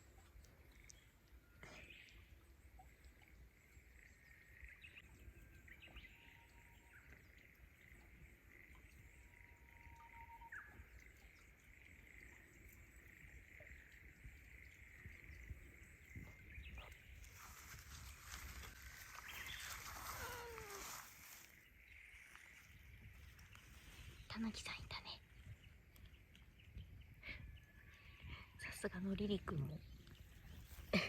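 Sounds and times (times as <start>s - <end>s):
faint chirps: 0.0s - 31.0s.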